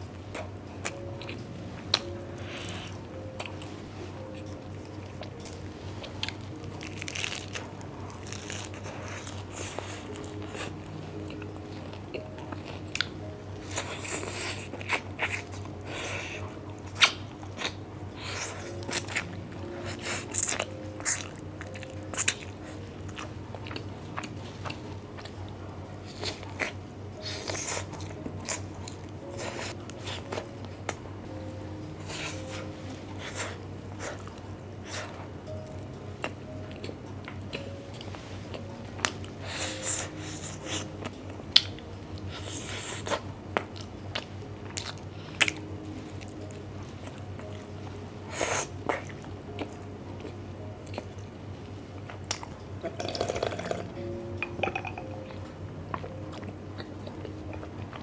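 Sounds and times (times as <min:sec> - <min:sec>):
crunchy chewing: 0:00.0 - 0:31.0, 0:32.0 - 0:47.7, 0:48.3 - 0:51.4.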